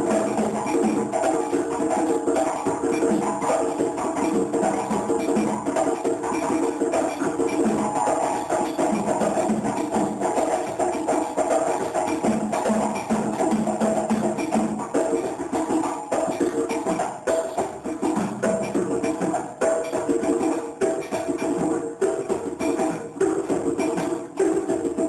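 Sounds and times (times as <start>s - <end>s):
hand drums playing fast rhythm: 0.0s - 25.0s.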